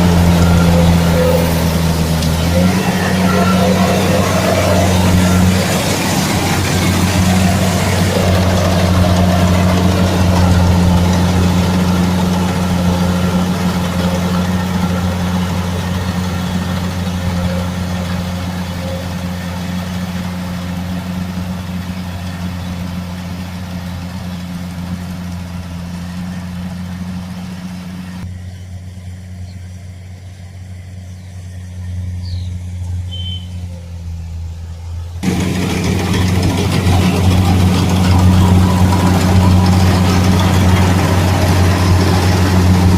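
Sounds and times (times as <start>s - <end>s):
combine harvester engine droning: 0.0s - 42.9s.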